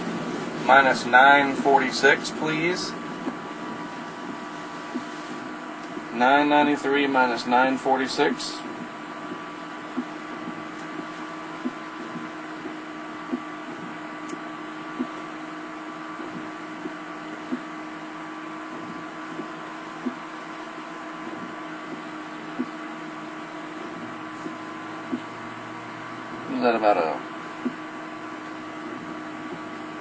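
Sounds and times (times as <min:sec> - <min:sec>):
car cabin hum and hiss: 0:00.0 - 0:30.0
faint steady tones: 0:00.0 - 0:30.0.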